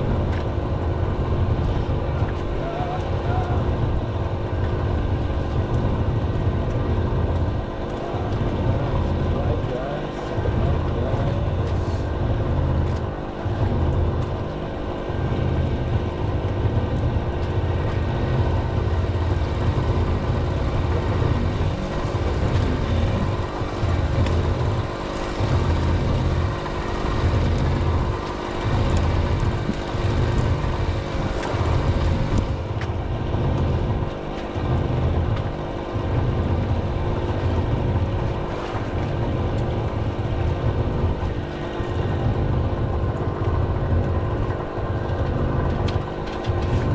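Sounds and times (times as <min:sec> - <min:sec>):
low rumble: 0:00.0 - 0:46.9
small boat engine running: 0:00.0 - 0:46.9.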